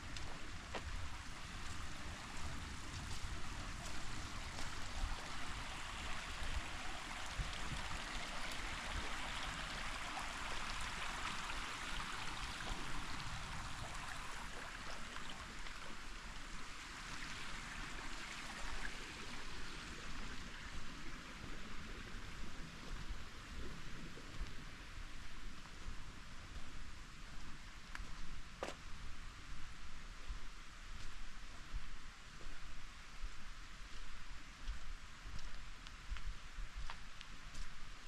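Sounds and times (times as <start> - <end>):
creek water flowing over rocks: 0.0 - 38.0.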